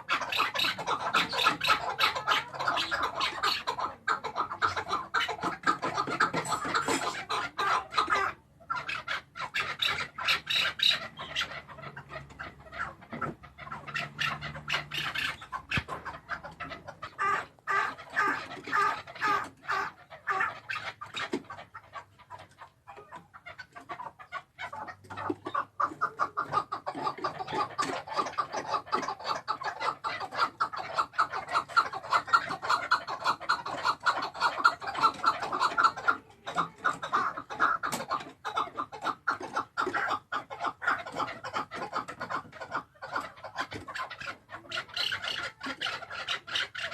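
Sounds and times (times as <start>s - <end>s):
partridge rapid clucking calls: 0.0s - 46.9s.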